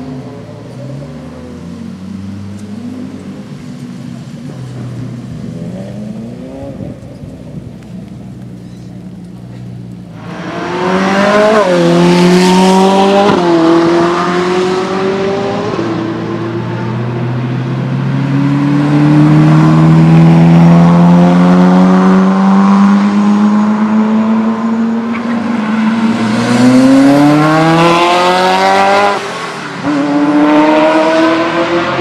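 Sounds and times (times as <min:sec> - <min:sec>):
sports car engine accelerating: 0:00.0 - 0:32.0.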